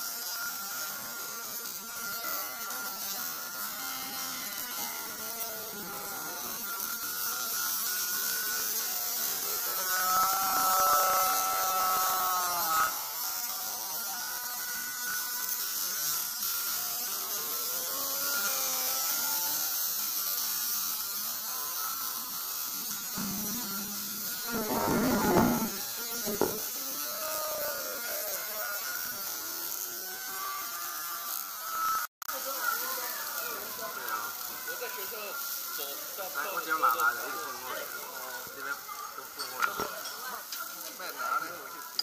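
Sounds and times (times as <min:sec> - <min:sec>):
meat sizzling on a grill: 0:00.0 - 0:42.0.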